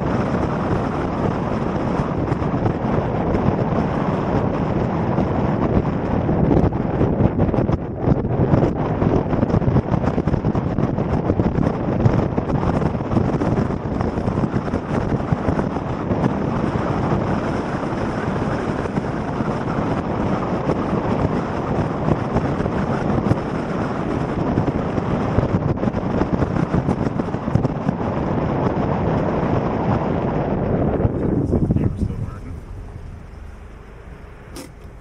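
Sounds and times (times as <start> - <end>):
vehicle rumble: 0.0 - 35.0
wind on microphone: 0.0 - 35.0.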